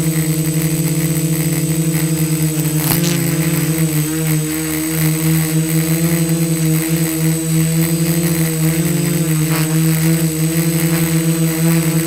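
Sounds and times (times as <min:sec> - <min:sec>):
quadcopter motors buzzing: 0:00.0 - 0:12.0.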